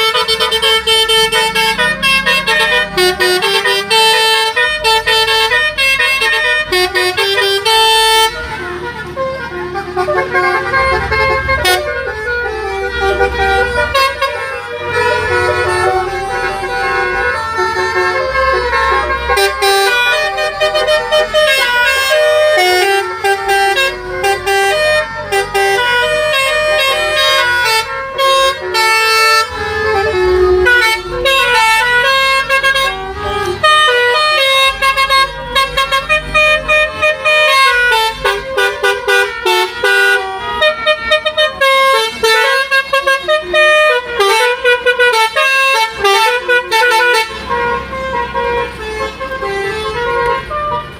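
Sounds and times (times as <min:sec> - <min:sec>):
multi-tone horns playing a tune: 0:00.0 - 0:50.9.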